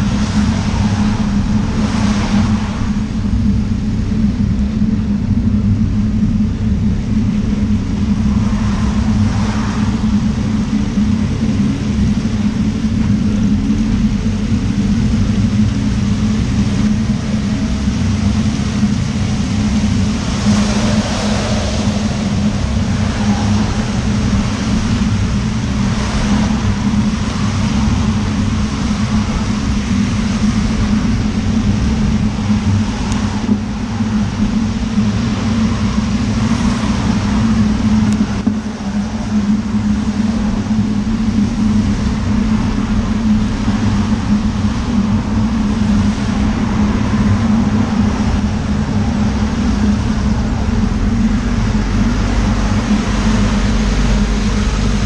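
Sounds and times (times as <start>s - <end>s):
tyres hissing on wet road: 0.0s - 3.5s, 7.9s - 55.0s
cars and lorry passing: 0.0s - 55.0s
motor traffic rumble: 0.0s - 55.0s
rain: 0.0s - 55.0s.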